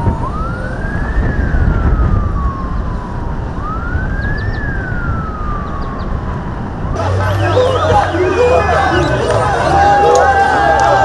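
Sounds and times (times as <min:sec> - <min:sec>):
rumble of passing vehicles: 0:00.0 - 0:11.0
siren wailing: 0:00.0 - 0:11.0.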